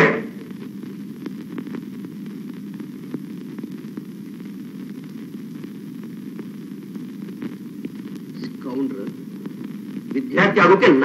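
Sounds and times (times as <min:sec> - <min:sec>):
faint crackles: 0:00.0 - 0:11.0
film soundtrack hiss and hum: 0:00.0 - 0:11.0.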